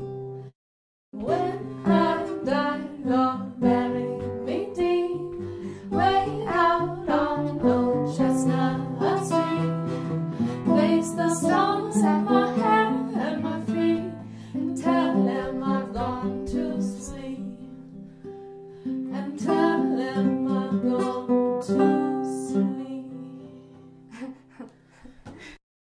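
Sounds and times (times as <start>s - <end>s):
acoustic guitar playing: 0.0s - 0.5s, 1.2s - 24.1s.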